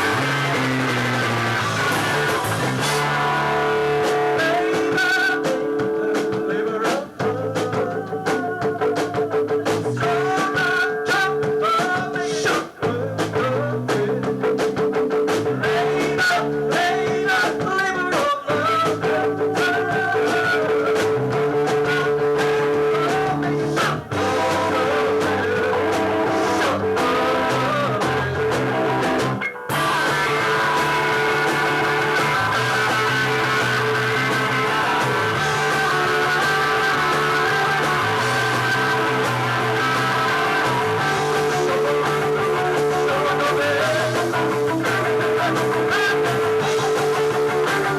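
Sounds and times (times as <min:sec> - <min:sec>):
bass guitar line: 0:00.0 - 0:47.9
guitar: 0:00.0 - 0:47.9
live rock band playing: 0:00.0 - 0:47.9.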